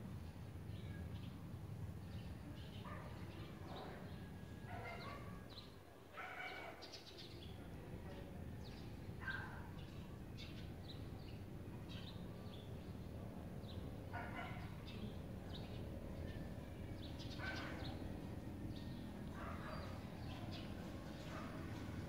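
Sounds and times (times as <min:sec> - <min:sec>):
low steady background hum: 0:00.0 - 0:22.0
small birds chirping: 0:02.0 - 0:22.0.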